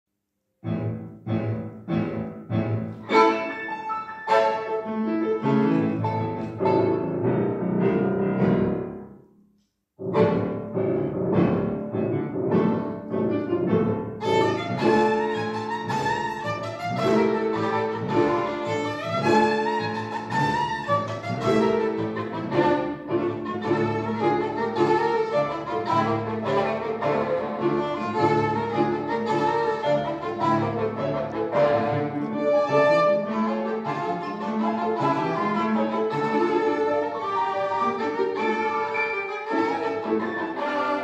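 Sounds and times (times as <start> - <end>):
piano: 0.5 - 41.0
bowed strings: 0.6 - 9.0, 10.0 - 41.0.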